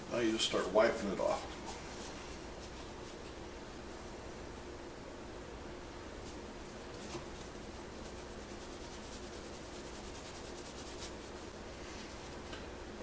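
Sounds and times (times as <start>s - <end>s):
cloth rubbing on figurine: 0.2s - 4.7s, 6.2s - 12.5s.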